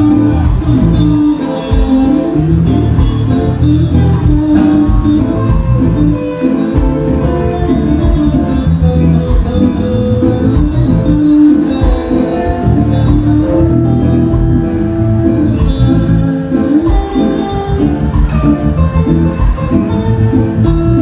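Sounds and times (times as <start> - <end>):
live reggae band playing: 0.0 - 21.0.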